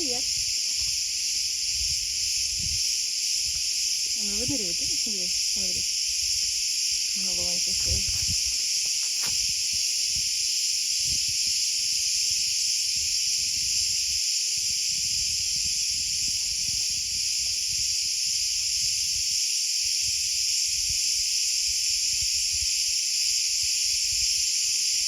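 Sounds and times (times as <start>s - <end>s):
wind on microphone: 0.0s - 19.4s, 20.0s - 22.9s, 23.5s - 25.0s
insects chirring: 0.0s - 25.0s.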